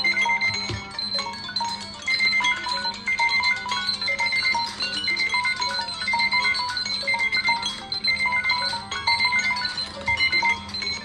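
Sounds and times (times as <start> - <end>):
phone alarm chimes: 0.0 - 11.0.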